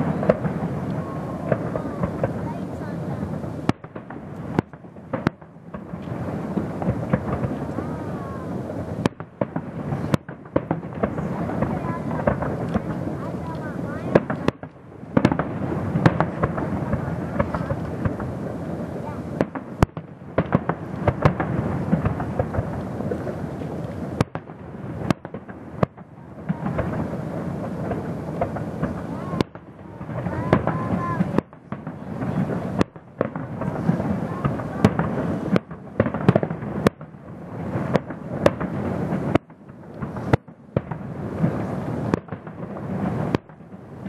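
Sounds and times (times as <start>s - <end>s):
continuous rumble: 0.0s - 44.0s
fireworks booms and crackles: 0.0s - 44.0s.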